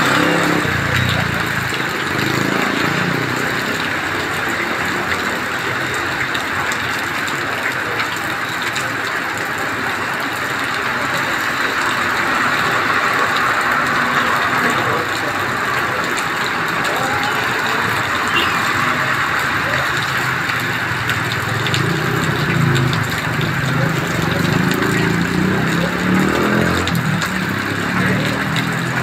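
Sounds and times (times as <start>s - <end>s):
heavy rain on road: 0.0s - 29.0s
tyres swishing through water: 0.0s - 29.0s.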